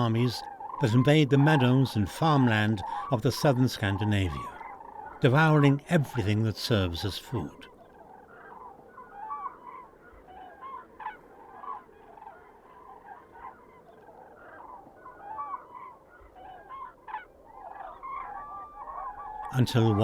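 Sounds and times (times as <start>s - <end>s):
cranes and swans calling: 0.0s - 20.0s.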